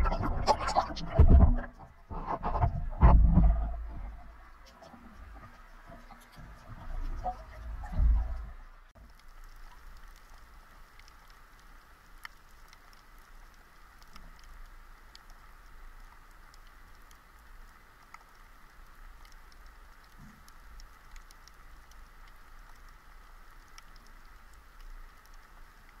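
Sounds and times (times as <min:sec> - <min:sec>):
small clicks and crackles: 0:00.0 - 0:26.0.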